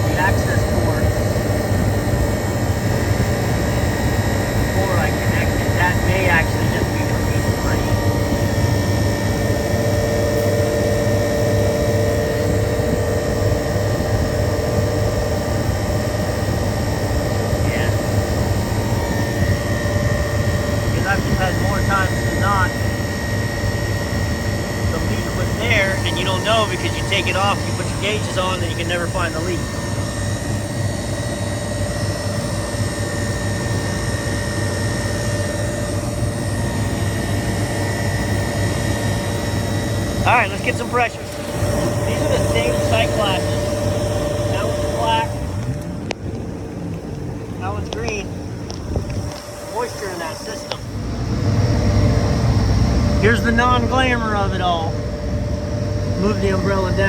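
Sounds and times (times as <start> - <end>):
refrigeration unit humming: 0.0 - 57.0
thin high whine: 0.0 - 57.0.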